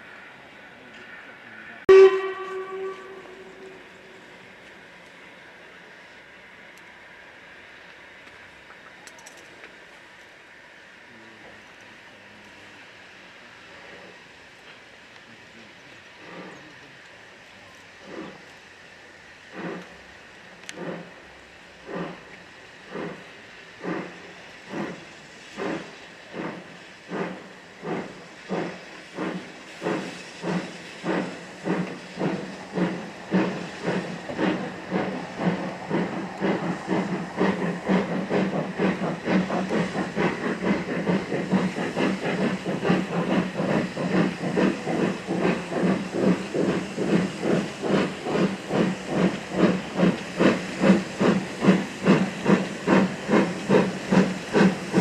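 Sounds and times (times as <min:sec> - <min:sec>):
steam locomotive exhaust beats: 0:00.0 - 0:55.0.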